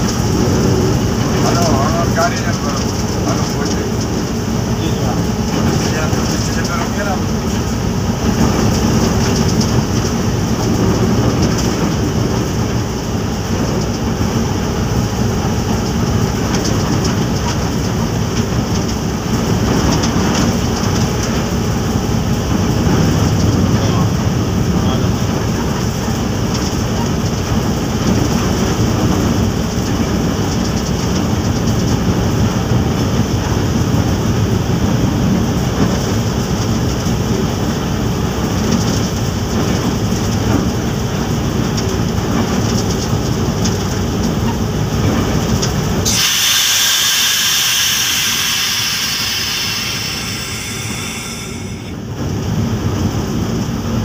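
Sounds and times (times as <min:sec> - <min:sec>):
locomotive engine running: 0:00.0 - 0:54.0
wheels running on rails: 0:00.0 - 0:54.0.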